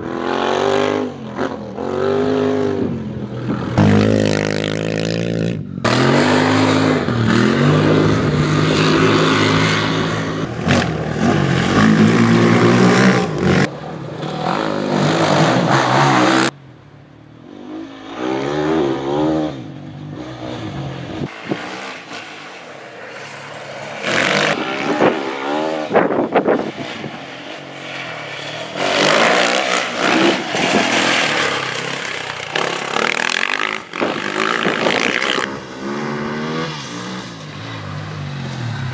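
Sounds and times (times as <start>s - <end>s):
rally cars racing past: 0.0s - 16.6s, 17.4s - 38.9s.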